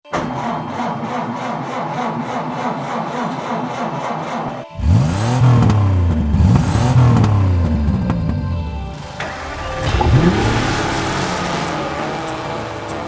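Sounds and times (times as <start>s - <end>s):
car engine revving: 0.1s - 13.0s.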